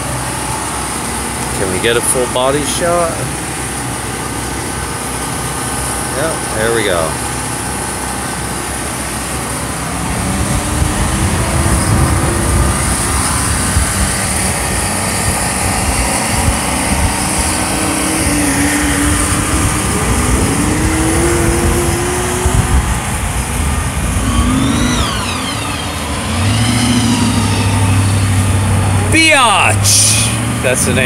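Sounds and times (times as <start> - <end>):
car engine idling unevenly: 0.0 - 31.0.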